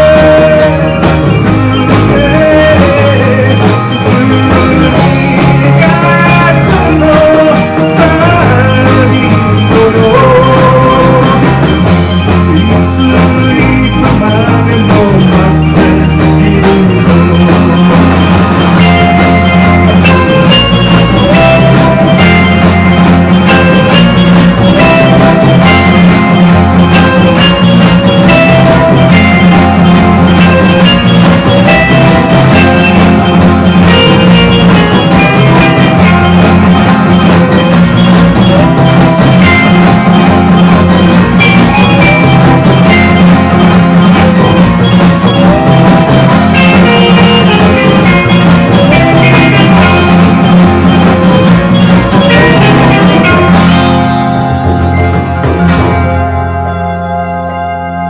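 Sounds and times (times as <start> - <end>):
drum kit: 0.0 - 58.0
electric bass: 0.0 - 58.0
electric guitars: 0.0 - 58.0
electric piano: 0.0 - 58.0
strummed acoustic guitars: 0.0 - 58.0.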